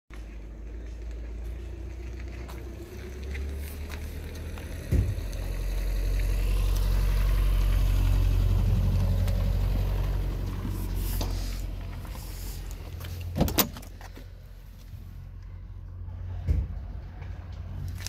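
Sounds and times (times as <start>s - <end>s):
diesel engine idling: 0.2s - 18.0s.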